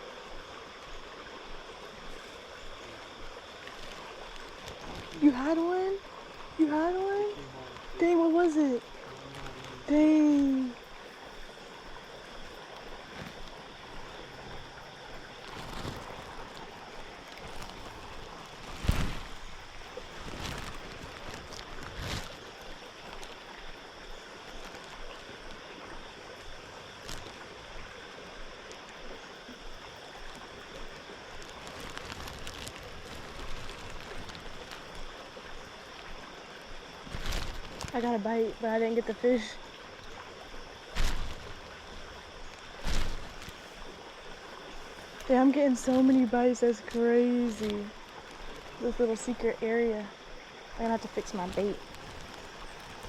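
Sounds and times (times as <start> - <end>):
flowing creek water: 0.0 - 53.0.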